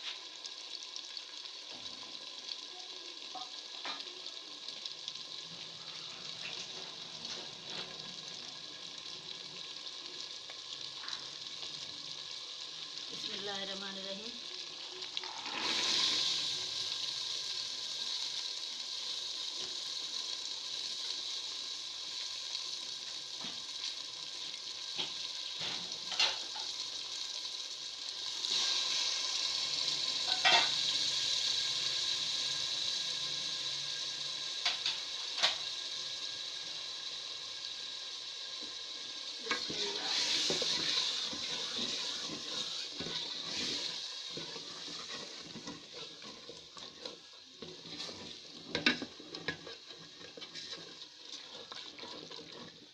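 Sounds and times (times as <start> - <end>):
food sizzling in a metal pot: 0.0 - 52.9.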